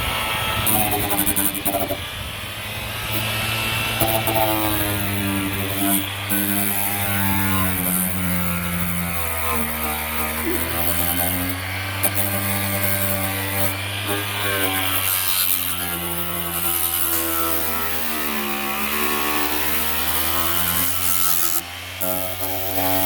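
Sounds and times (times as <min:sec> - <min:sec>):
electric sander on metal: 0:00.0 - 0:23.0.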